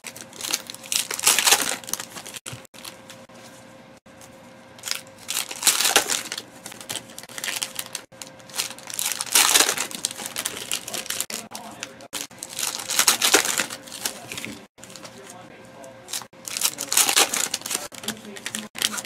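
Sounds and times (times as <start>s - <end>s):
card pack wrappers crinkling: 0.0s - 3.2s, 4.8s - 15.3s, 16.1s - 19.0s
cards rustling: 0.0s - 3.6s, 4.8s - 15.4s, 16.1s - 19.0s.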